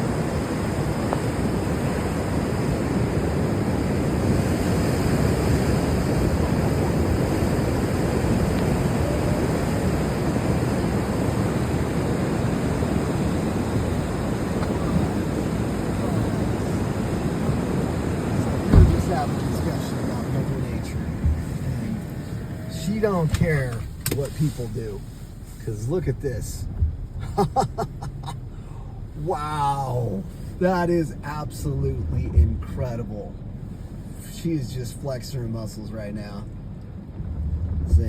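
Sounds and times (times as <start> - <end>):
floodwater rushing down creek: 0.0 - 38.0.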